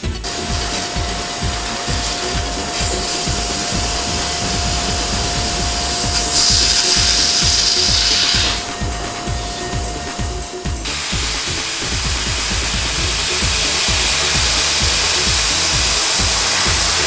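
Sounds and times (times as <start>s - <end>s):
background music with beat: 0.0s - 17.0s
laser cutting machine hiss: 0.0s - 17.0s
thin steady whine: 0.0s - 17.0s.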